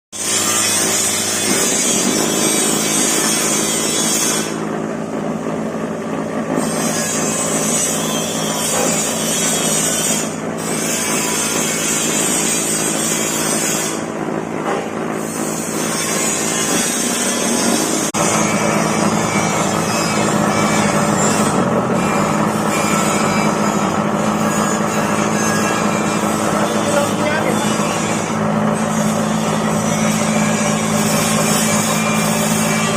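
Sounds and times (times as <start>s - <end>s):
machine motor humming: 0.2s - 32.9s.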